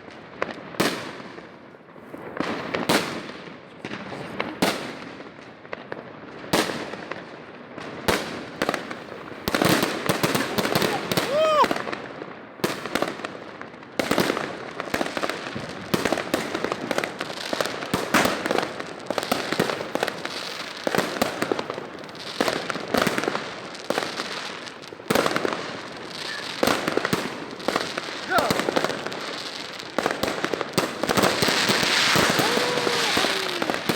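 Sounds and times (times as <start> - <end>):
fireworks cracking and banging: 2.2 - 33.9.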